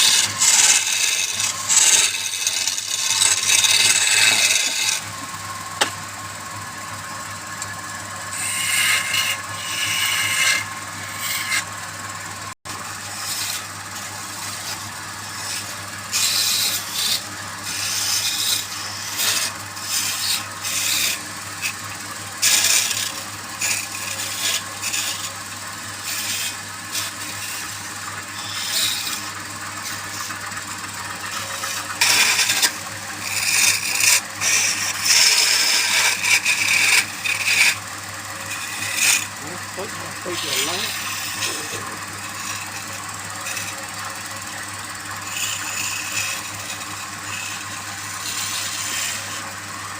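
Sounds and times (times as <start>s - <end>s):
rasping scrapes on spinning wood: 0.0s - 5.9s, 6.5s - 49.9s
lathe humming: 0.0s - 49.9s.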